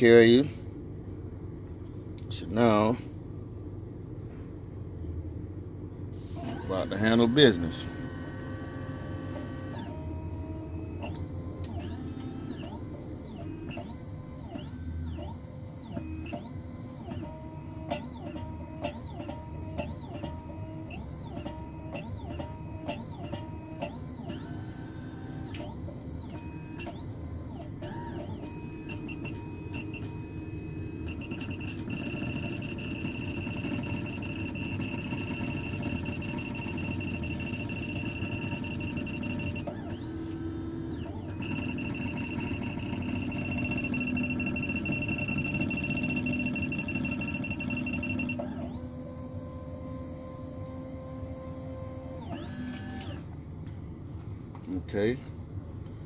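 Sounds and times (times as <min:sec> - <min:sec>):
key-cutting machine whining: 0:06.4 - 0:53.2.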